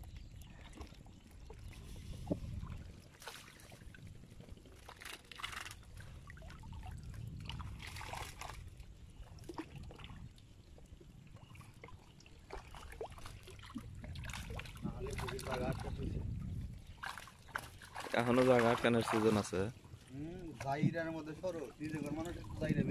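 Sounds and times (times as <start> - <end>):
water sloshing and trickling: 0.0 - 22.9
water splashing: 0.0 - 22.9.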